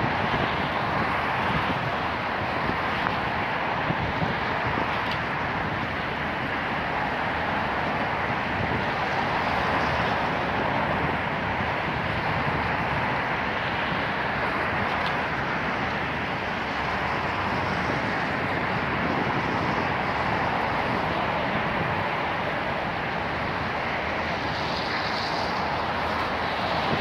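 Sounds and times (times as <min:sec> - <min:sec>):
city traffic noise: 0:00.0 - 0:27.0.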